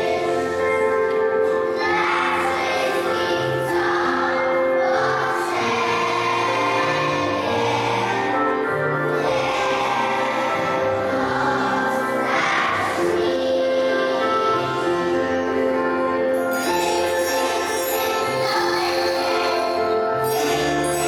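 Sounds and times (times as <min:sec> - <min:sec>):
children's choir singing: 0:00.0 - 0:21.0
instrumental backing music: 0:00.0 - 0:21.0.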